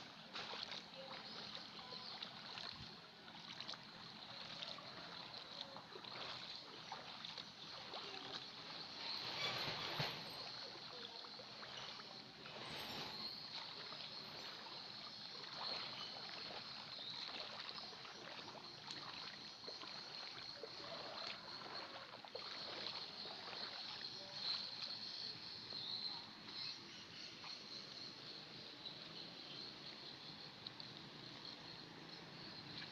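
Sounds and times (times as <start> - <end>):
floodwater sloshing and splashing: 0.0 - 32.9.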